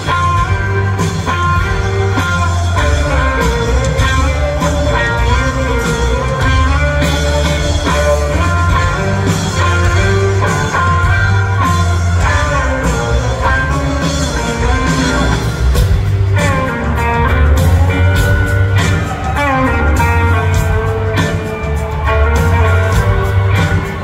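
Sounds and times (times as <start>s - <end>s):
blues-rock band playing: 0.0s - 24.0s
electric guitar: 0.0s - 24.0s.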